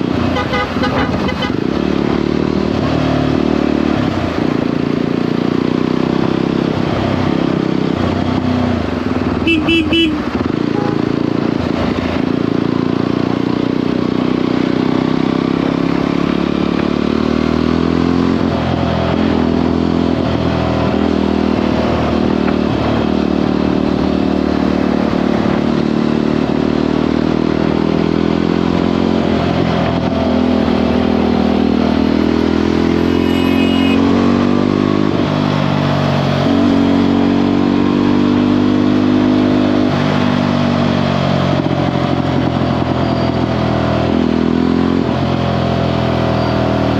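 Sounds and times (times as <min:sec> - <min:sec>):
motorcycle engine running: 0:00.0 - 0:46.9
wind and road noise: 0:00.0 - 0:46.9.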